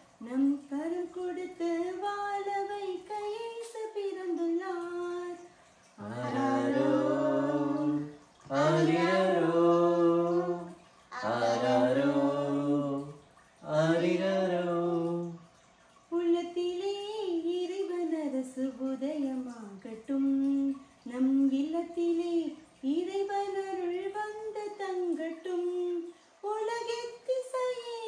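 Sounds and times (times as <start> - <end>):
woman singing unaccompanied: 0.2 - 15.4, 16.1 - 28.0.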